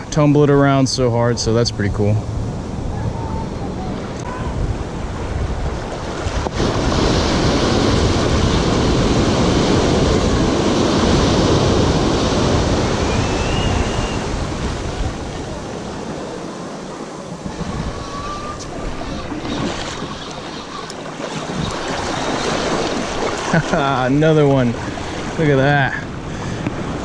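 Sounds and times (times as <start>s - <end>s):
ocean surf breaking on rocks: 0.0s - 27.0s
wind buffeting microphone: 1.7s - 27.0s.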